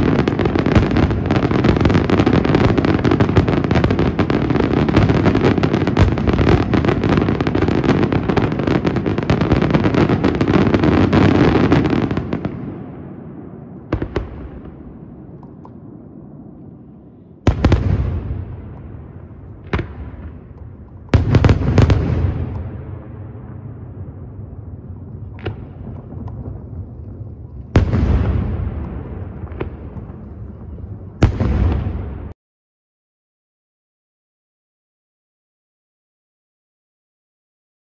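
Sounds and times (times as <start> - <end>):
fireworks bursting: 0.0 - 32.4.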